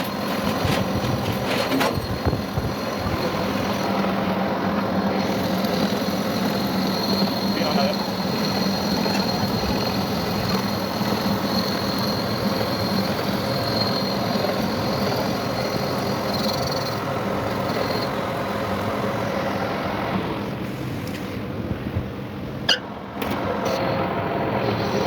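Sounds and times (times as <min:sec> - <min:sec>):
workshop machine running: 0:00.0 - 0:25.0.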